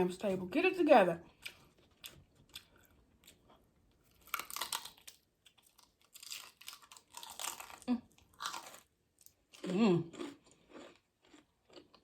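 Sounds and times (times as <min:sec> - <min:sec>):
crunching bites of fried food: 0:01.4 - 0:12.0.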